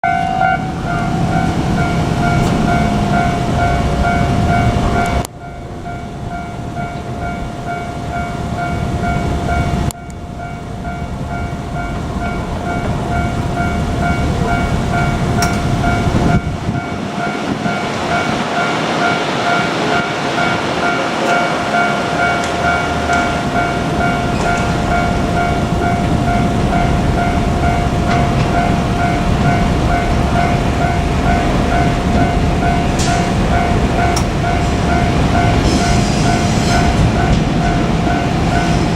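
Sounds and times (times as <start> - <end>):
diesel railcar engine and wheel rumble: 0.0 - 38.9
level crossing warning bell: 0.0 - 38.9.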